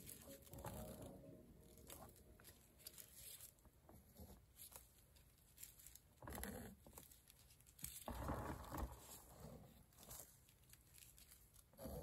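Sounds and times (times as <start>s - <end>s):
gloved hand handling noises: 0.0s - 12.0s
soft rustle: 0.0s - 12.0s.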